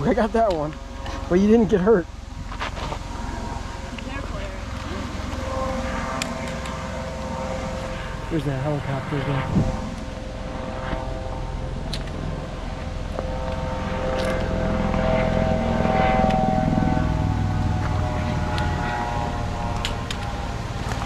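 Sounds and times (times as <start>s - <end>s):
helicopter flying past: 0.0s - 21.0s.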